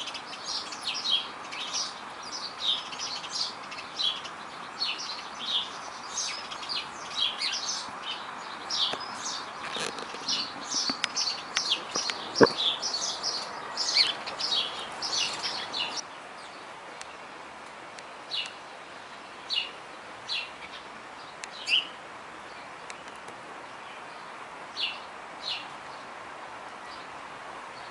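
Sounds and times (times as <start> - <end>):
birds chirping: 0.0 - 17.4, 18.3 - 26.2.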